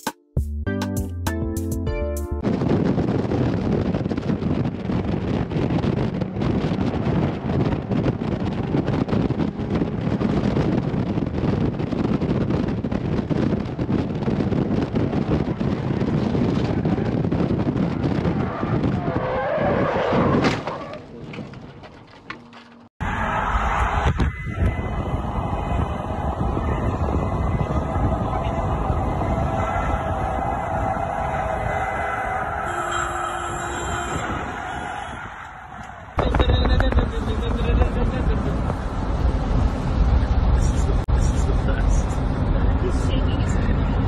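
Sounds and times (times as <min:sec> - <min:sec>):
wind rush: 0:02.4 - 0:20.9, 0:23.0 - 0:44.0.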